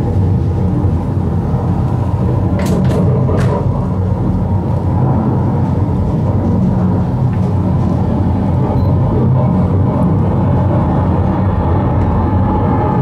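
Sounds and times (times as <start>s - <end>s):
tunnel car rumbling on track: 0.0s - 13.0s.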